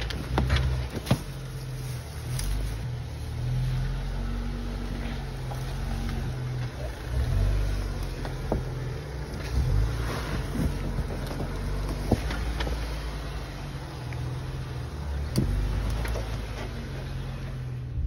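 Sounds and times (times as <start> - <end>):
engine rumbling at low revs: 0.0 - 18.0.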